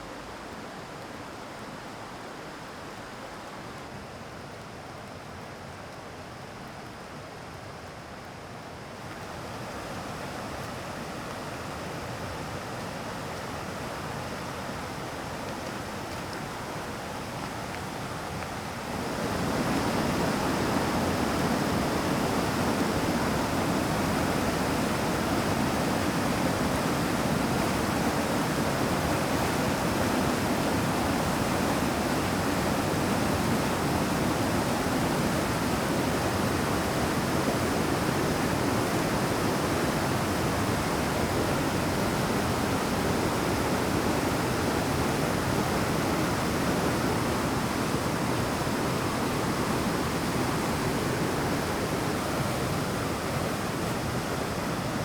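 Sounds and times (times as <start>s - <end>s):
stream rushing over rapids: 0.0s - 55.0s.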